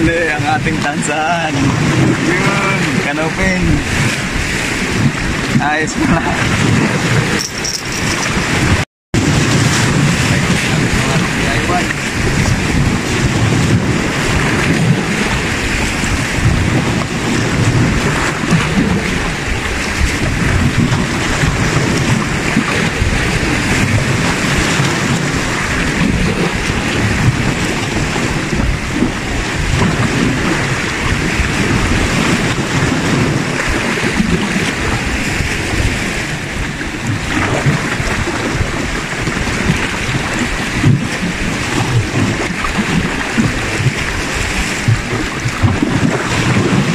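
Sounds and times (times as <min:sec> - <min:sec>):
sea waves washing against rocks: 0:00.0 - 0:46.9
wind buffeting microphone: 0:00.0 - 0:46.9.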